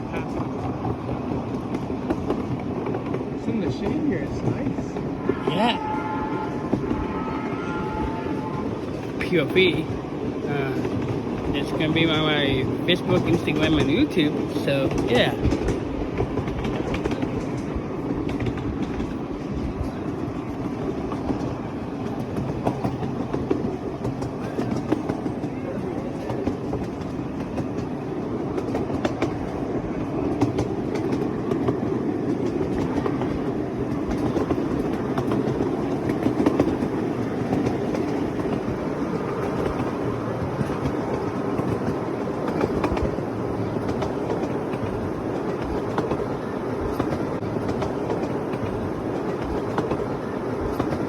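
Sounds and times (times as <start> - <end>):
miniature train cars rumbling: 0.0 - 51.0
wheels clicking and rattling on rails: 0.0 - 51.0.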